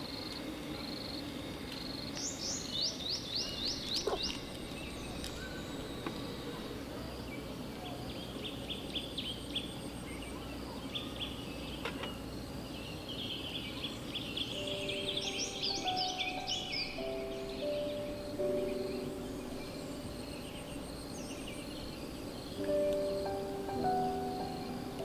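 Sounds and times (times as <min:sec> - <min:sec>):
low background noise: 0:00.0 - 0:25.0
songbirds chirping: 0:00.0 - 0:25.0.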